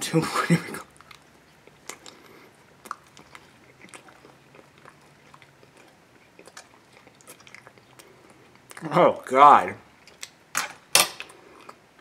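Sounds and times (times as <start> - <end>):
person chewing: 0.8 - 8.9, 10.0 - 12.0.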